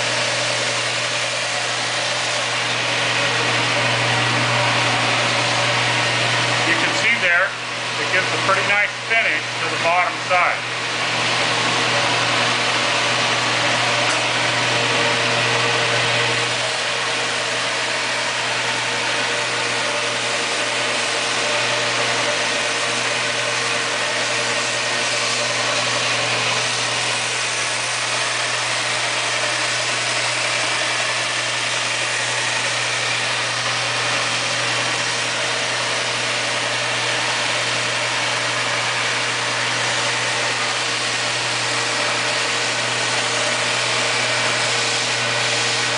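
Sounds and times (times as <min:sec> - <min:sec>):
sander running on wood: 0:00.0 - 0:45.9.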